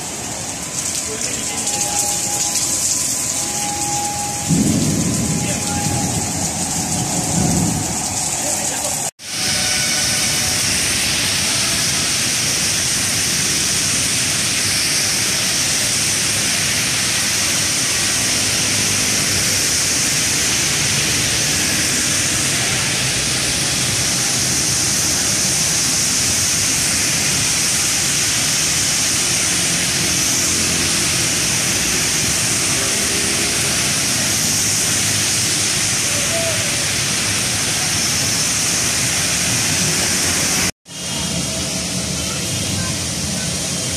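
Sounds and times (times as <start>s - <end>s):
heavy rain: 0.0s - 43.9s
traffic on wet road: 0.0s - 43.9s.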